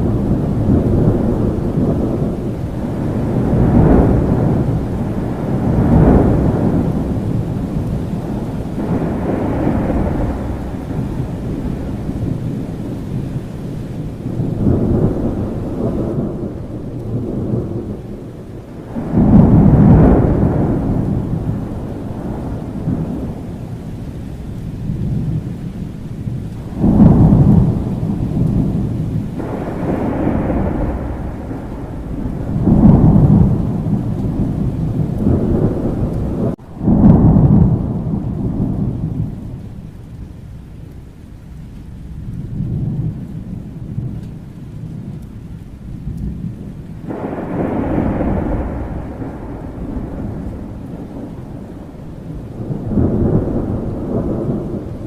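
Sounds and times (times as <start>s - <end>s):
rolling thunder: 0.0s - 55.0s
steady rain: 0.0s - 55.0s.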